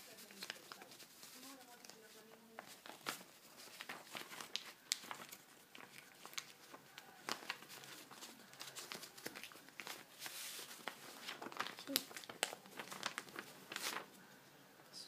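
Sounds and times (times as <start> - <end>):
paper being folded and crinkling: 0.0 - 14.3.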